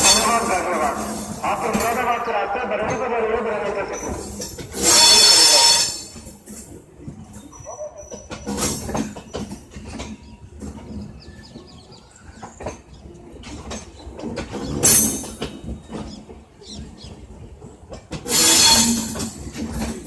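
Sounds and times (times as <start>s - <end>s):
train wheels clicking over rail joints: 0.0s - 20.0s.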